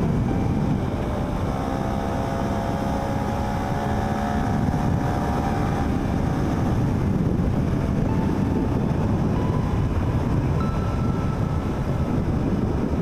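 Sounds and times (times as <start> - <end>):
motorcycle engine drone: 0.0 - 13.0
wind rumble on microphone: 0.0 - 13.0.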